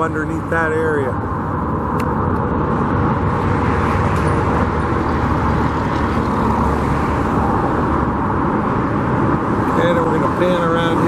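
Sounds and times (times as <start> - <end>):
constant low outdoor roar: 0.0 - 11.0.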